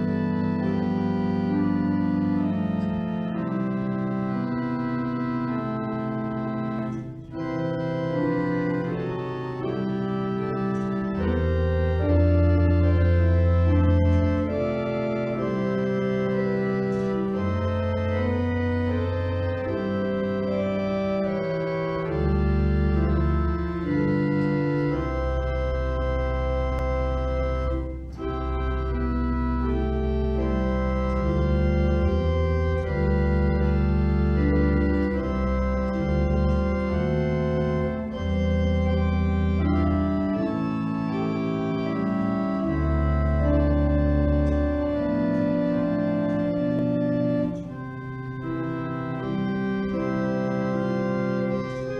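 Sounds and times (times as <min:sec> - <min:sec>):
organ playing slow chords: 0:00.0 - 0:51.9.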